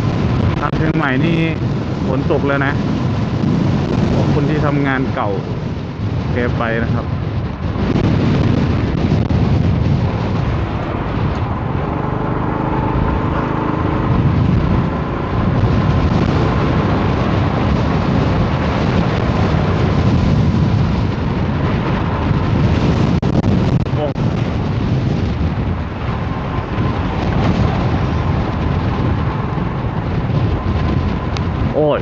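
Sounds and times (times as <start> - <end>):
car engine and road noise: 0.0 - 32.0
storm wind buffeting microphone: 0.0 - 32.0.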